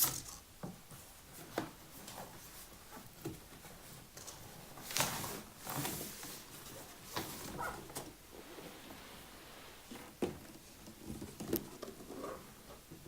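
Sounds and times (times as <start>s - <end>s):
cardboard scraping and rustling: 1.3s - 12.7s.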